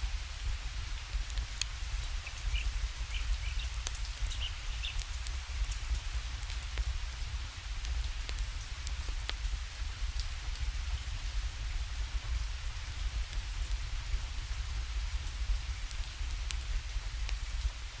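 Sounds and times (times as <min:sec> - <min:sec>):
steady rainfall: 0:00.0 - 0:18.0
wood fire crackling: 0:00.5 - 0:13.8, 0:15.3 - 0:18.0.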